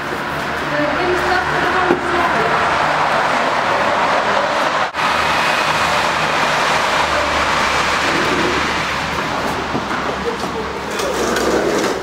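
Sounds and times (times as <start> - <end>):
passing vehicles rushing: 0.0 - 12.0.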